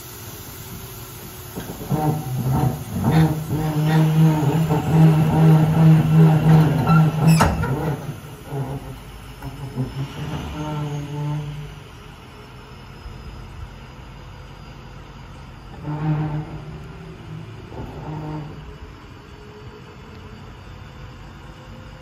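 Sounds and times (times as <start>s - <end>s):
diesel engine droning: 0.9s - 22.0s.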